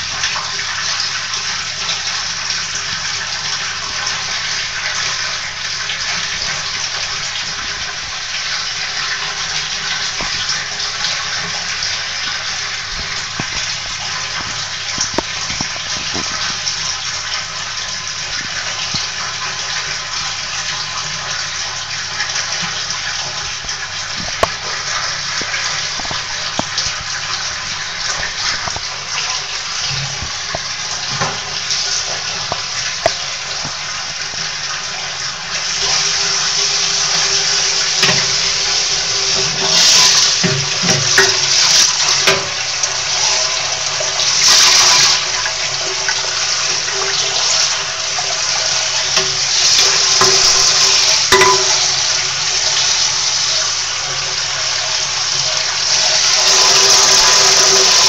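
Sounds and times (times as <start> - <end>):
water churning in washing machine: 0.0 - 58.0.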